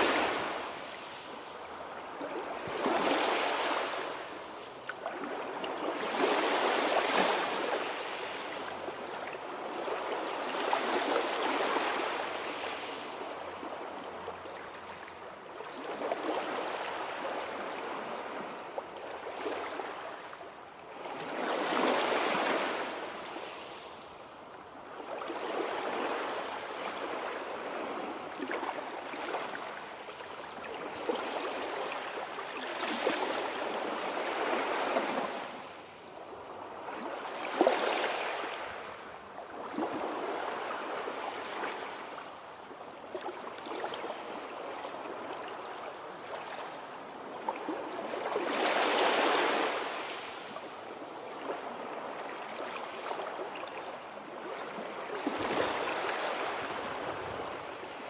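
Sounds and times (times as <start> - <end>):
sea waves breaking on shore: 0.0 - 23.9, 24.7 - 58.0.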